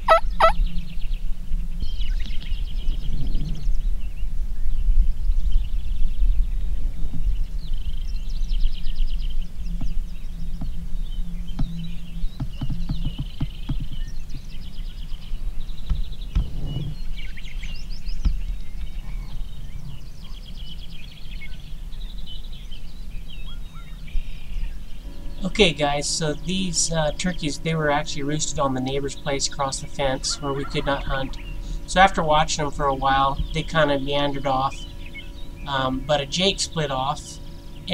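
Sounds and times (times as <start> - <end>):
songbirds singing: 0.0 - 37.9
wind rumble on microphone: 0.0 - 37.9.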